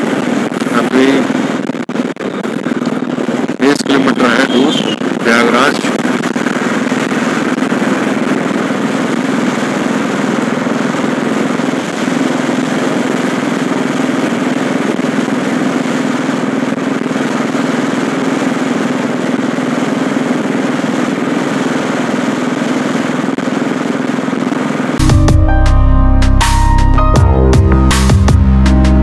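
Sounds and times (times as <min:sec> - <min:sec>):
wind and road noise: 0:00.0 - 0:25.0
motorcycle engine running: 0:00.0 - 0:29.0.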